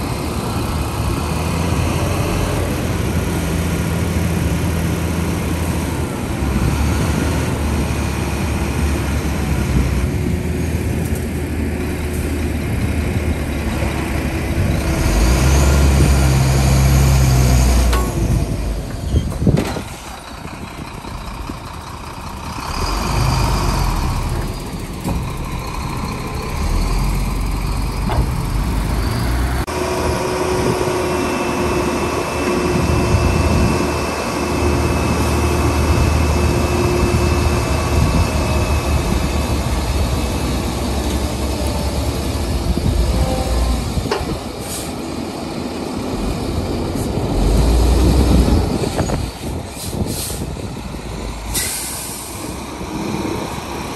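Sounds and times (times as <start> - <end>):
dump truck engines running: 0.0 - 53.9.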